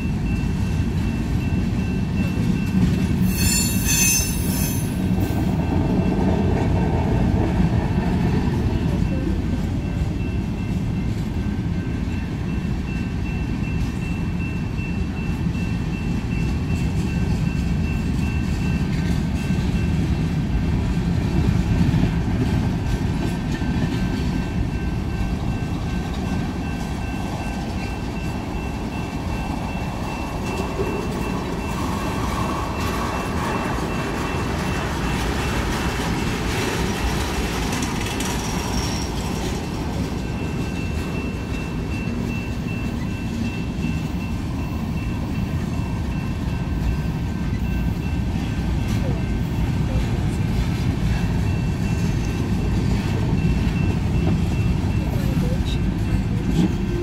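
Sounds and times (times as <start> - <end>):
freight train rolling past: 0.0 - 57.0
steel wheels rattling on rails: 0.0 - 57.0.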